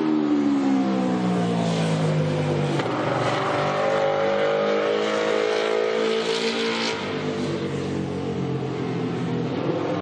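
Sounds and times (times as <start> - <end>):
racing motorcycle engine: 0.0 - 10.0.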